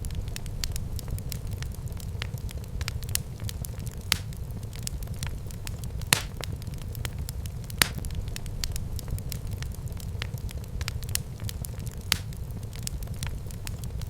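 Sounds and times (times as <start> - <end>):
fire crackles and pops: 0.0 - 14.0
low rumble of flame: 0.0 - 14.0.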